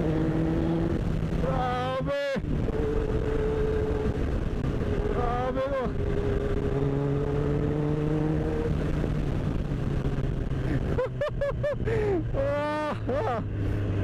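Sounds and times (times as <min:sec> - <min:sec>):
wind noise on microphone: 0:00.0 - 0:01.8, 0:02.4 - 0:12.4
motorcycle engine cruising: 0:00.0 - 0:14.0.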